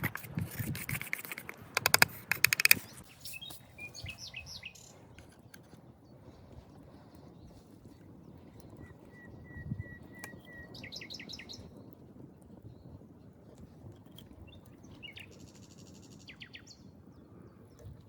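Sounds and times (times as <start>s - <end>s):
songbirds chirping: 2.4s - 13.4s, 14.2s - 18.0s.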